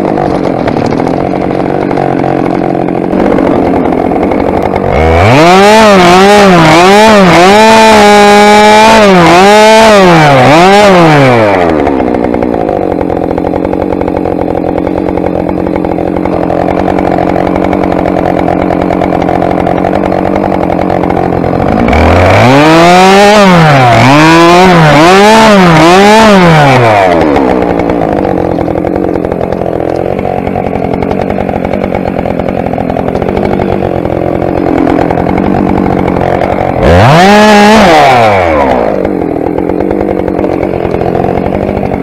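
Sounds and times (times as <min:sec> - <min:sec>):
chain cutting into tree trunk: 0:00.0 - 0:42.0
chainsaw idling and revving: 0:00.0 - 0:42.0.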